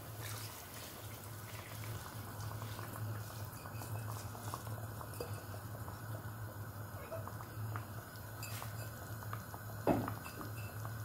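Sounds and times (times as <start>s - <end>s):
stock boiling and bubbling: 0.0s - 11.0s.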